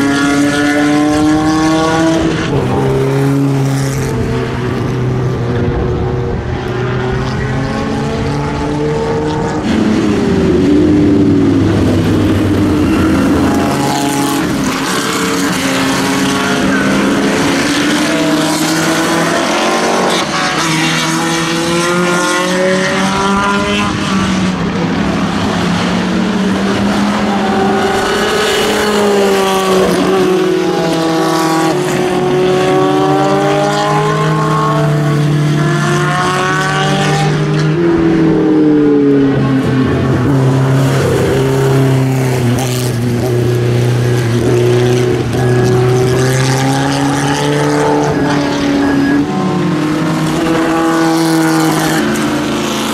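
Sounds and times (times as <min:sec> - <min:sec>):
racing cars passing: 0:00.0 - 0:52.9.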